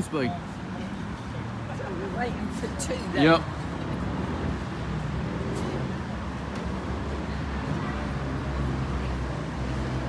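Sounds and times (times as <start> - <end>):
idling vehicle engines rumbling: 0.0 - 10.0.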